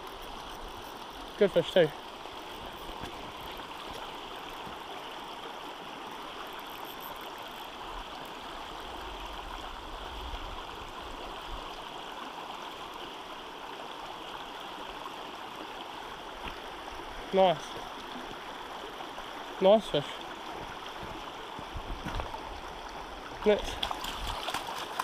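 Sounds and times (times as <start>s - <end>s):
water babbling over stones: 0.0s - 25.0s.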